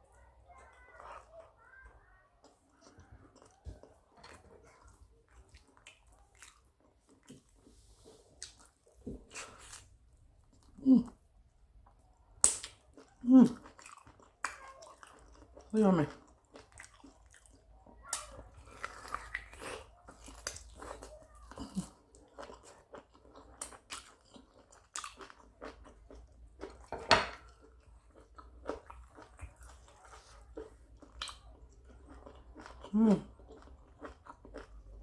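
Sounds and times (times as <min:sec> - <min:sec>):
person chewing food: 0:00.1 - 0:35.0.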